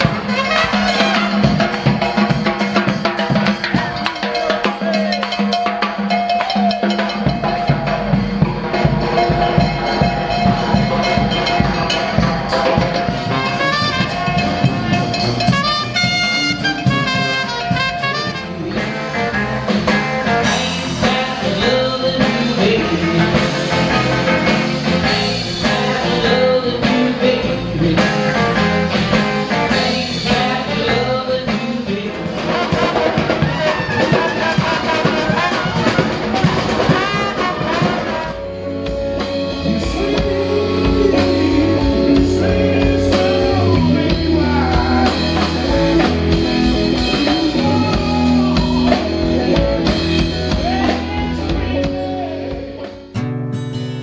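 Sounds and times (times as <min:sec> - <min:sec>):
brass band playing jazz: 0:00.0 - 0:54.0.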